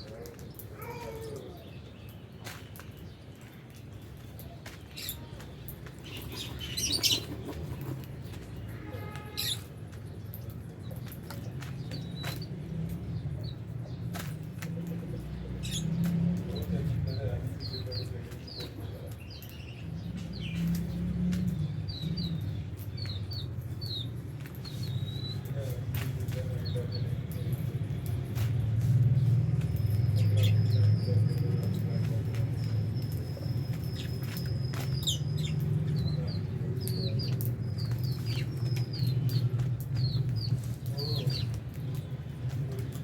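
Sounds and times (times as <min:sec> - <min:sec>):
lovebirds chirping: 0:00.0 - 0:43.0.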